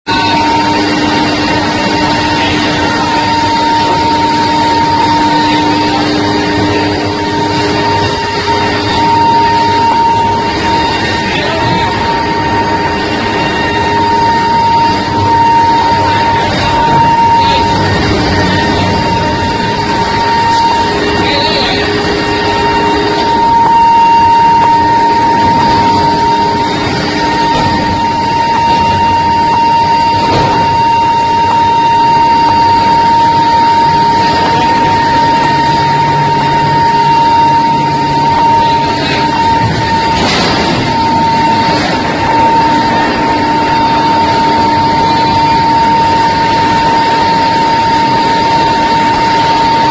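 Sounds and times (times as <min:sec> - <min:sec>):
high-pitched furnace hum: 0:00.0 - 0:49.9
induction coil whine: 0:00.0 - 0:49.9
loud factory noise: 0:00.0 - 0:49.9
machinery noise: 0:00.0 - 0:49.9.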